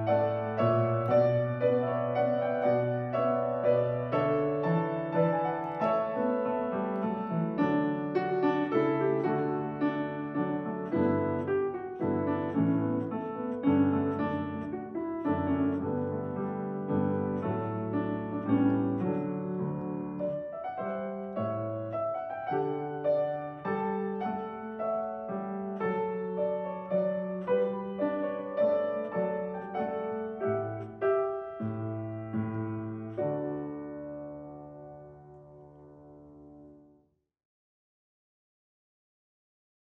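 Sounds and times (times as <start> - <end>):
slow piano piece: 0.0 - 37.0.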